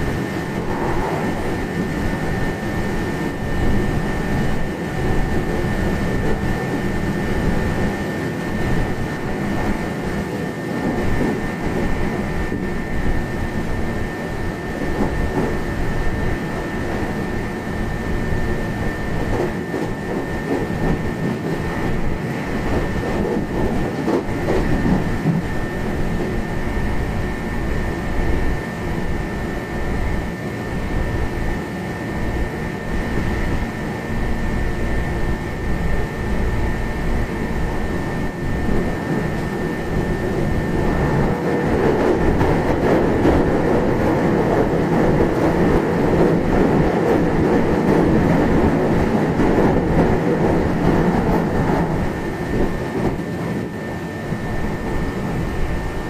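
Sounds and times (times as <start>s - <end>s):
train wheels rumbling: 0.0s - 31.5s, 32.1s - 56.0s
high whine: 0.0s - 56.0s.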